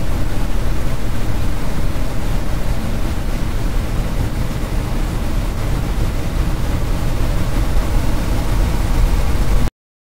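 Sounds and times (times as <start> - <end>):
synthesized red noise: 0.0 - 9.7.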